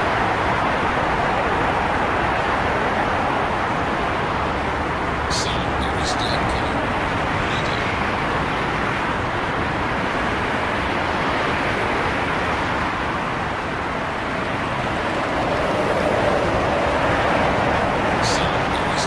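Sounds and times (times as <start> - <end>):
highway traffic: 0.0 - 19.0.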